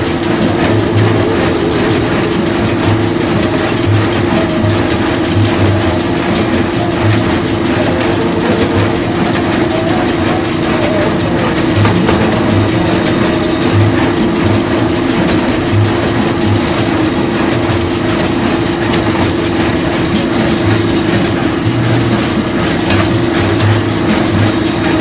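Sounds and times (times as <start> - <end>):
heavy machinery engine hum: 0.0 - 25.0
low pulses: 0.0 - 25.0.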